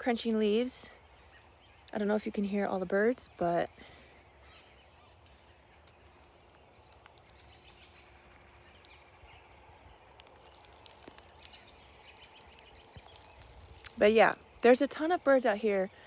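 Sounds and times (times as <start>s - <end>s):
distant birdsong: 0.0s - 16.0s
soft bird chirps: 0.2s - 16.0s.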